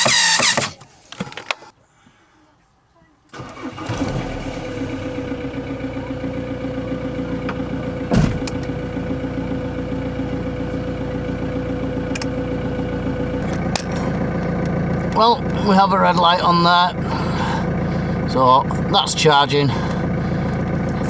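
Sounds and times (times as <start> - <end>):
van engine idling: 3.4 - 21.0.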